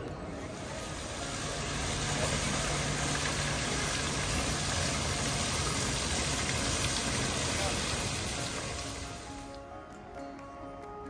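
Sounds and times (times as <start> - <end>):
fountain splashing into pool: 0.3 - 9.6.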